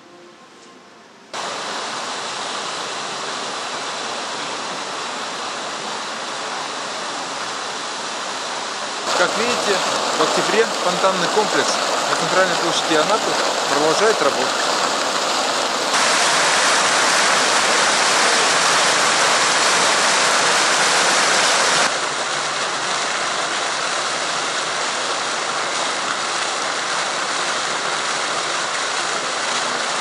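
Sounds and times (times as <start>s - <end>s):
fountain water splashing: 1.4s - 30.0s.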